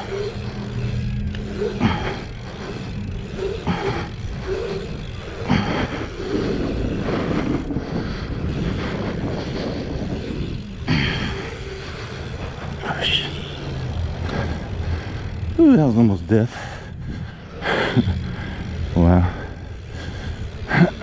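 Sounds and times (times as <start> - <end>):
bike tyre noise on track: 0.0 - 21.0
short rough bursts: 0.0 - 21.0
wind rushing over camera: 0.0 - 21.0.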